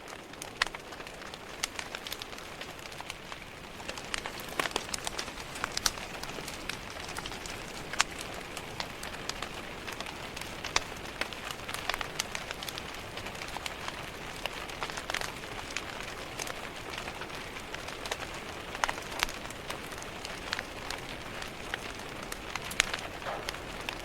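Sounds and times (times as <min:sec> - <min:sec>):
fireplace fire crackling: 0:00.0 - 0:24.0
rain tapping on a window: 0:00.0 - 0:24.0.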